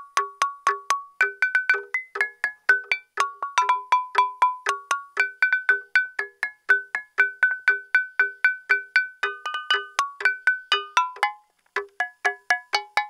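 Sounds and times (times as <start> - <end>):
stone lithophone melody: 0.0 - 13.0.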